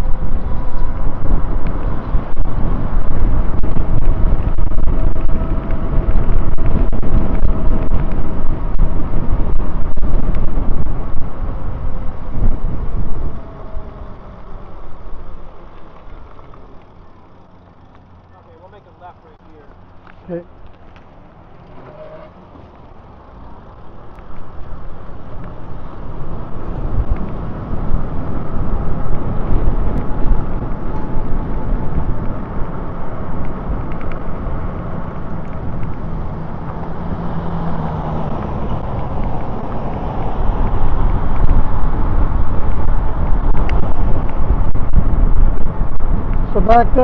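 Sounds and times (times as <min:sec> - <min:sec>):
wind buffeting microphone: 0:00.0 - 0:19.2, 0:19.8 - 0:47.0
tyre and road noise: 0:00.0 - 0:47.0.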